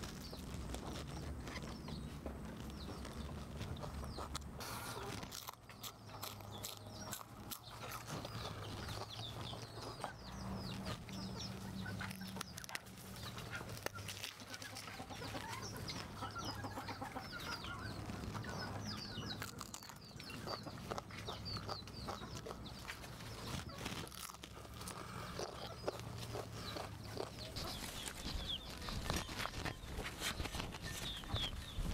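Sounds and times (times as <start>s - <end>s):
birds chirping: 0.0s - 31.9s
chickens clucking: 0.2s - 31.9s.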